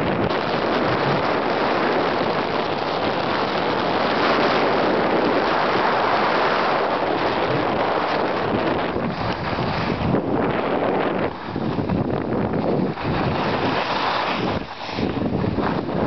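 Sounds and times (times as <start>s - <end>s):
wind on microphone: 0.0s - 16.0s
skis scraping over packed snow: 0.1s - 16.0s.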